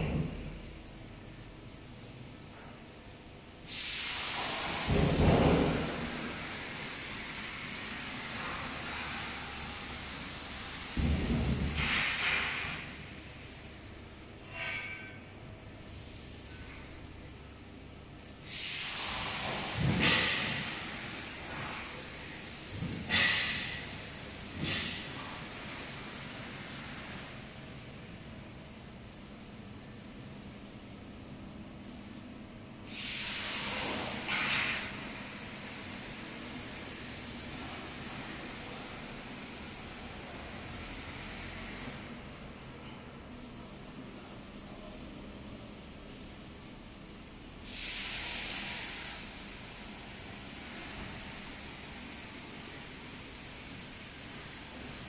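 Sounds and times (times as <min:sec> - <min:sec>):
loud steady hiss: 0:03.4 - 0:55.0.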